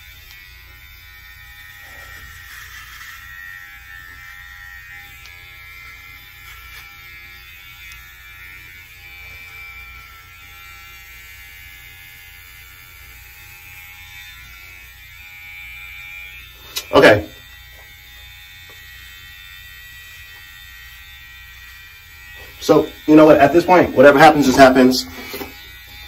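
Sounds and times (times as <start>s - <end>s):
electric shaver buzzing: 0.0s - 26.0s.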